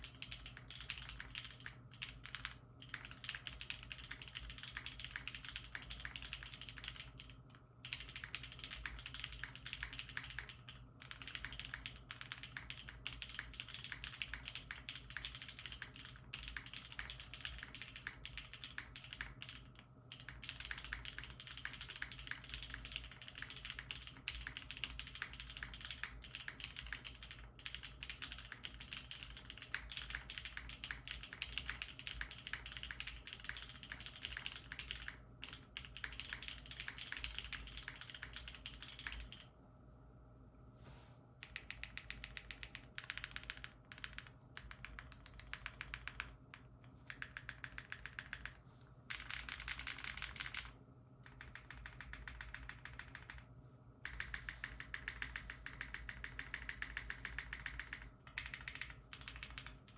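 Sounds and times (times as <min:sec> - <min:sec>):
mechanical keyboard typing: 0:00.0 - 0:39.5, 0:41.4 - 0:59.9.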